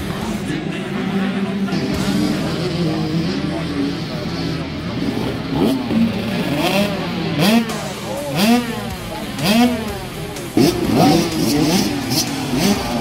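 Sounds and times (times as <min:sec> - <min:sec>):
racing engine revving: 0:00.0 - 0:13.0.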